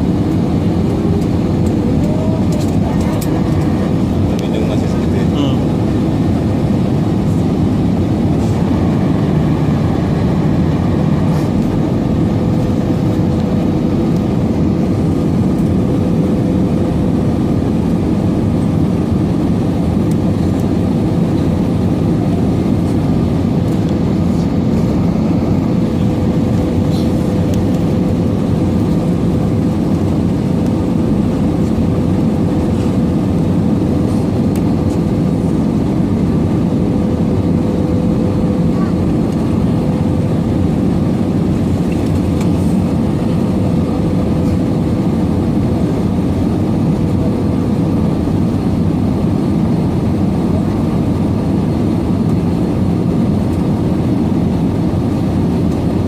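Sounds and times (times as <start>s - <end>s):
airliner cabin rumble: 0.0s - 56.0s
constant hum: 0.0s - 56.0s.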